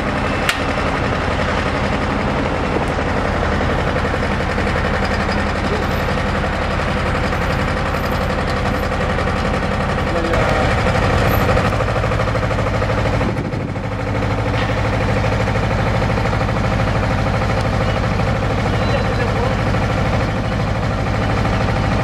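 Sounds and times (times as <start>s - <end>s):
drilling rig engine drone: 0.0s - 22.0s.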